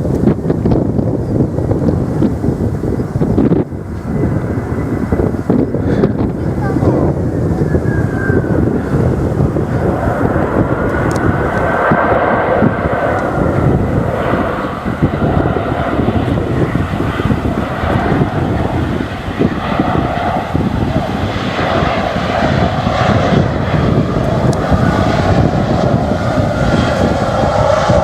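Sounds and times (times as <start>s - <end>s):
aircraft engine droning: 0.0s - 28.0s.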